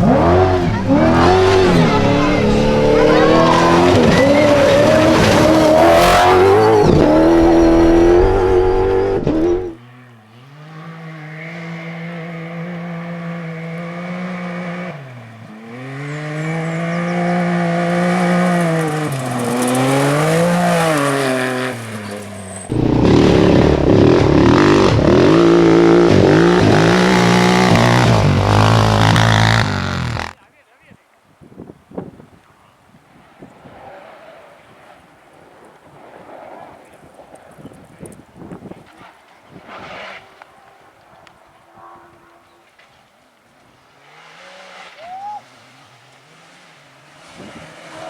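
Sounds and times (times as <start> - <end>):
rally car engines revving: 0.0 - 30.4, 33.5 - 48.0.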